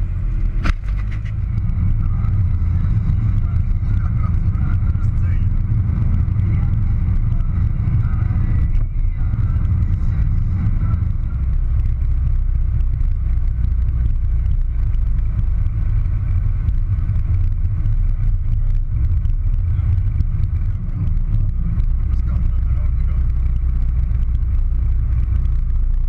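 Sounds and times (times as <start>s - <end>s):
vehicle engine drone: 0.0s - 26.0s.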